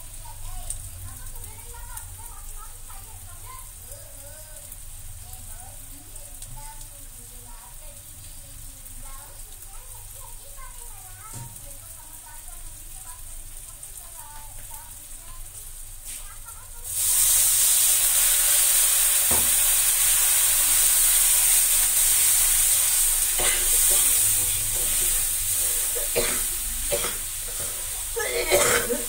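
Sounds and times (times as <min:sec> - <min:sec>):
liquid sizzling in hot pan: 0:00.0 - 0:29.0.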